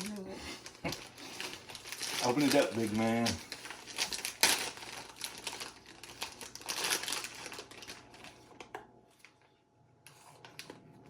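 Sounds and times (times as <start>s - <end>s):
plastic wrapper crinkling: 0.0s - 9.4s, 10.1s - 10.8s.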